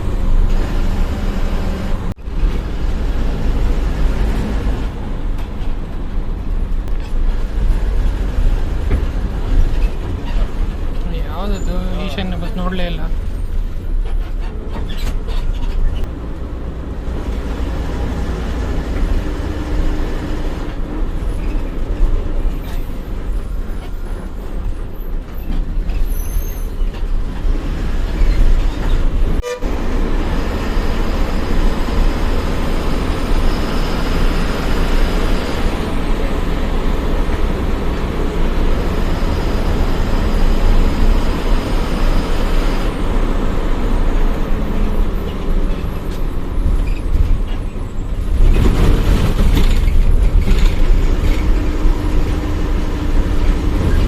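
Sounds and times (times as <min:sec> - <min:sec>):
bus engine rumble: 0:00.0 - 0:54.0
road and rattle noise: 0:00.0 - 0:54.0.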